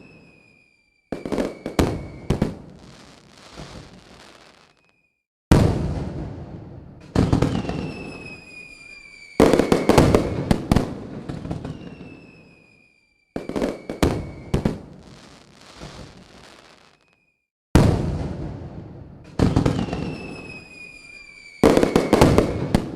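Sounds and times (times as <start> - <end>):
falling firework whistle: 0.0 - 5.7, 7.1 - 17.9, 19.3 - 22.9
fireworks crackling: 0.0 - 6.3, 7.0 - 18.5, 19.2 - 22.9
fireworks bangs: 0.0 - 17.2, 17.8 - 22.9.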